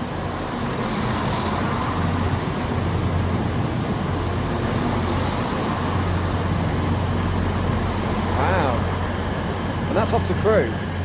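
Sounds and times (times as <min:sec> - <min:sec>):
train diesel engines humming: 0:00.0 - 0:11.0.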